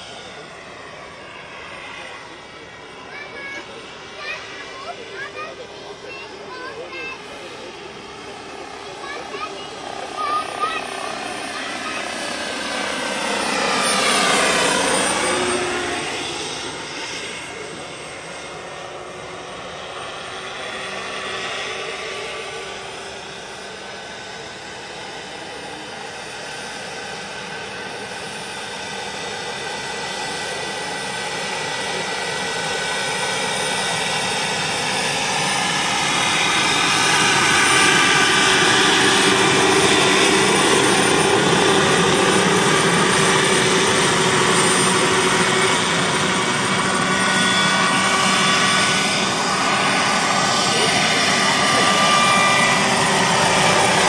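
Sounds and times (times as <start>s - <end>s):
model helicopter turbine whine: 0.0s - 54.0s.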